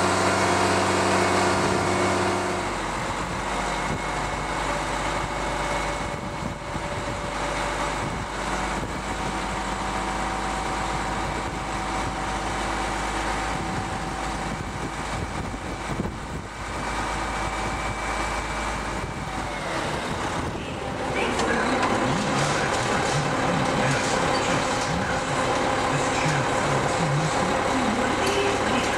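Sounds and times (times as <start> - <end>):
diesel truck engine running: 0.0 - 28.9
hydraulic whine: 0.0 - 28.9.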